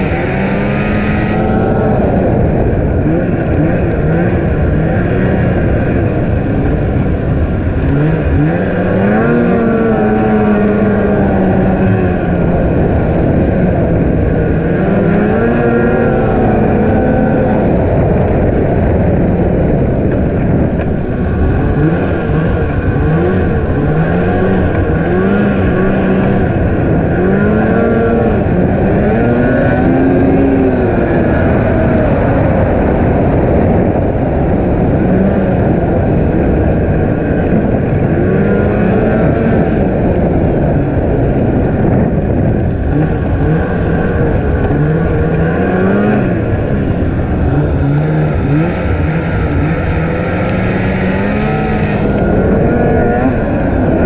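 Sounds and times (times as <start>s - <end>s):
snowmobile engine revving: 0.0s - 54.0s
steady rushing noise: 0.0s - 54.0s.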